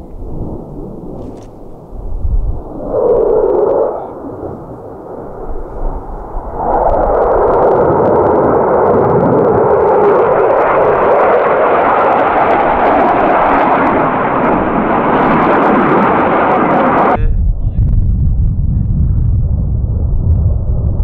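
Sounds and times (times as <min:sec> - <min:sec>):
fighter jet passing low: 0:00.0 - 0:17.2.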